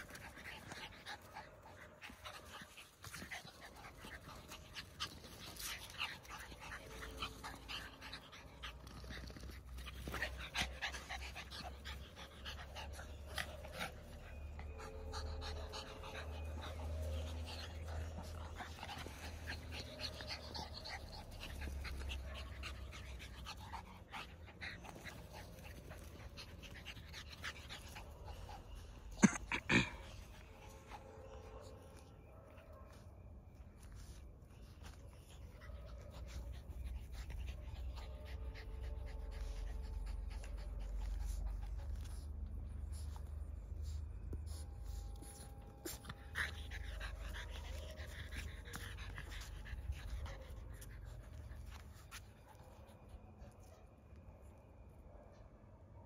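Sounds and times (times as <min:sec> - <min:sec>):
dogs panting: 0:00.0 - 0:54.2.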